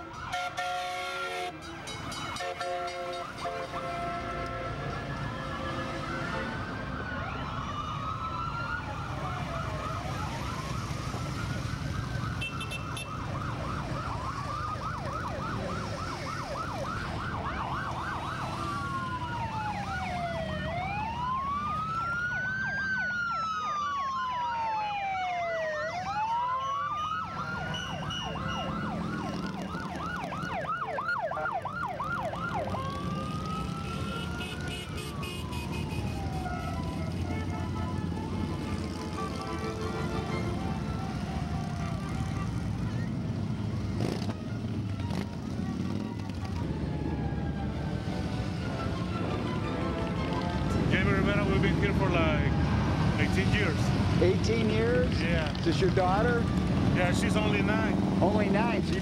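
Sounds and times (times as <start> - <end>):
motorcycle engines rumbling: 0.0 - 59.0
police sirens wailing and yelping: 0.0 - 59.0.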